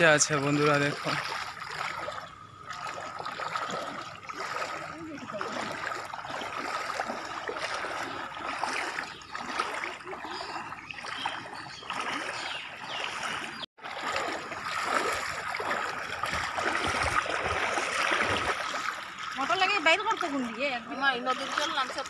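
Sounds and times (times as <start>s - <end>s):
people wading through water: 0.0s - 22.0s.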